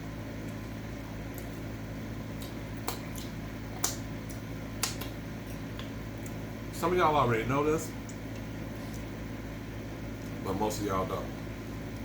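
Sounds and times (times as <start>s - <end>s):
air conditioning fan hum: 0.0s - 12.0s.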